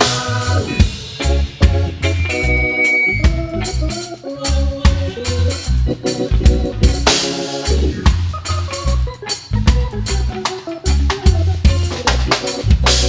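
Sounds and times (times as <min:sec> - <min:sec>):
drum kit beat: 0:00.0 - 0:13.0
live reggae band playing: 0:00.0 - 0:13.0.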